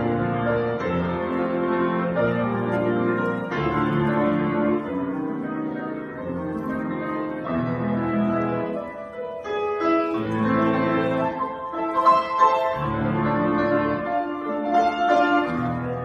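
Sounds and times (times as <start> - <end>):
solo piano playing: 0.0 - 16.0.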